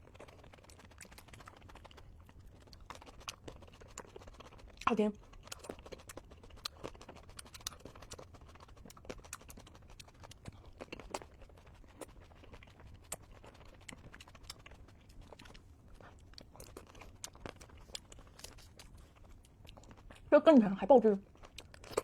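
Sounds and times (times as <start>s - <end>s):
wet chewing of tomato: 0.0s - 20.3s, 20.9s - 22.0s.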